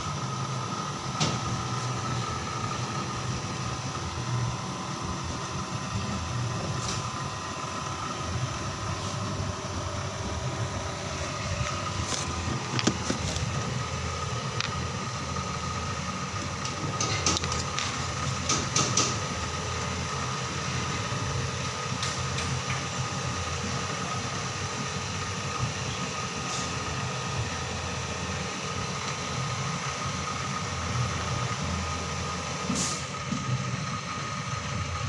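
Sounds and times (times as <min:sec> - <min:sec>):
mechanical hum with whine: 0:00.0 - 0:35.0.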